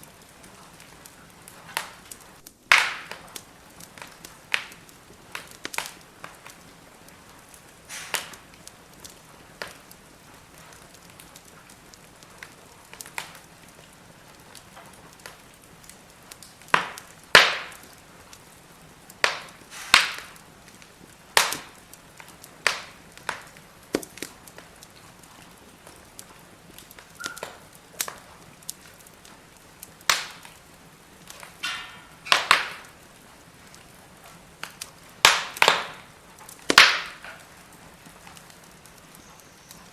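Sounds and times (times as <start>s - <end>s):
faint fire hiss: 0.0s - 39.9s
firewood crackling and popping: 0.0s - 39.9s.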